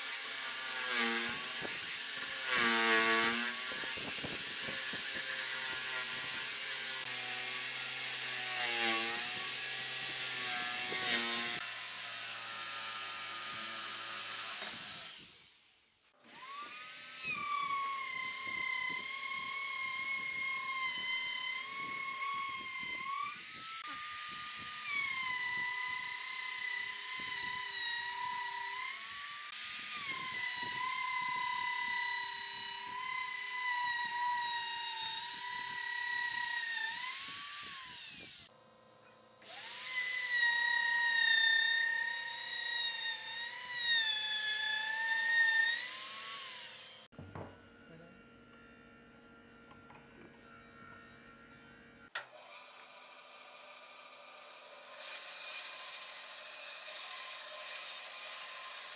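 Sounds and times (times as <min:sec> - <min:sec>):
router whining through wood: 0:00.0 - 0:58.9.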